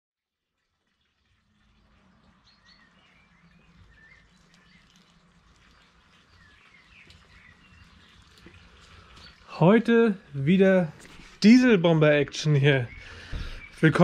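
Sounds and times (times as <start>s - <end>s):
faint birds chirping: 0.4s - 14.0s.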